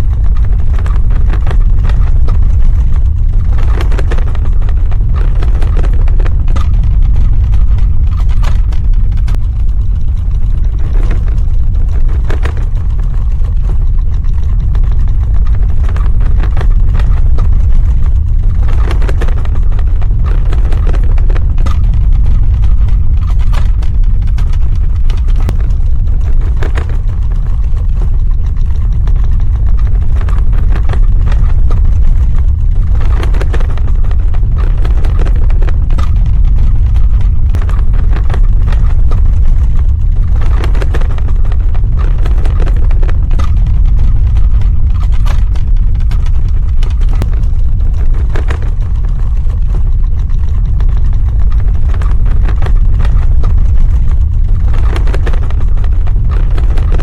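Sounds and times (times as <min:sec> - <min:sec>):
crackling and rattling: 0:00.0 - 0:57.0
deep earthquake rumble: 0:00.0 - 0:57.0.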